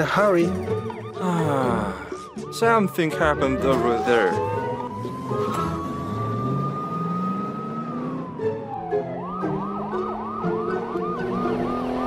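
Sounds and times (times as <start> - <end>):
police siren wail: 0.0 - 12.0
police siren yelp: 0.0 - 12.0.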